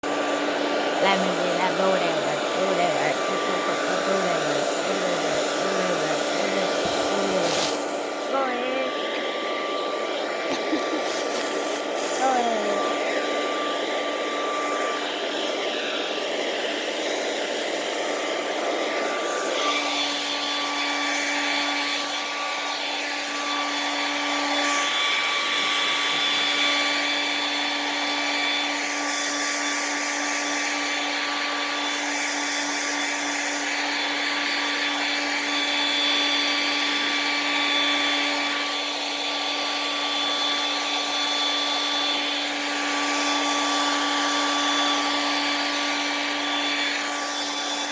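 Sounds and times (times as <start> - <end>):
blow dryer whirring: 0.0 - 47.9.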